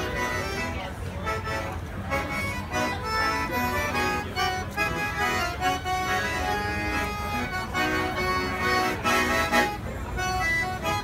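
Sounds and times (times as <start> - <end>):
accordion chords: 0.0 - 11.0
violin melody: 0.0 - 11.0.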